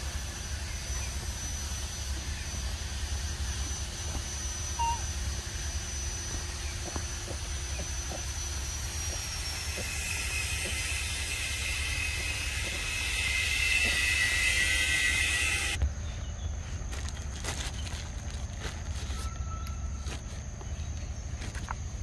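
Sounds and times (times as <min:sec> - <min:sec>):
cicada chorus: 0:00.0 - 0:22.0.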